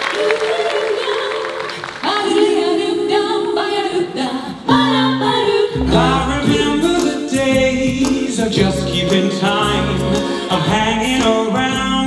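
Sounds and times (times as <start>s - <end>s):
group singing a cappella: 0.1s - 12.0s.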